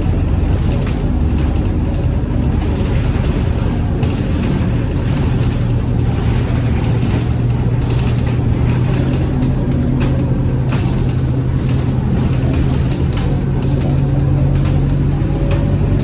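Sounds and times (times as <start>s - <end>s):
bus engine humming: 0.0s - 16.0s
light rattles and clicks: 0.0s - 16.0s.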